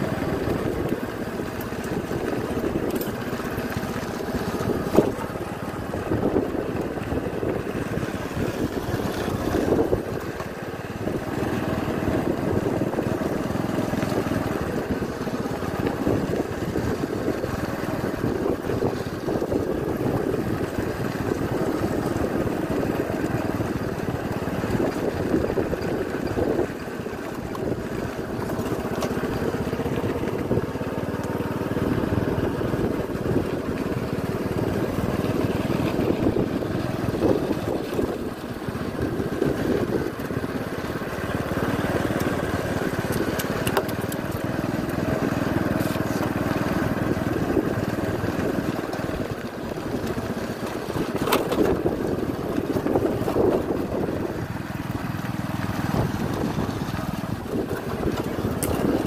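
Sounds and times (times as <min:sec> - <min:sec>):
road and wind noise: 0:00.0 - 0:59.0
vehicle engine running: 0:00.0 - 0:59.0.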